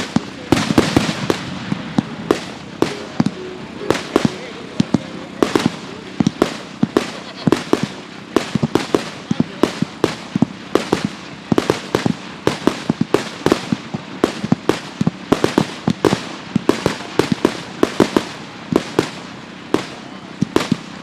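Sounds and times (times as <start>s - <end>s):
continuous hiss: 0.0s - 21.0s
fireworks bangs and cracks: 0.0s - 21.0s.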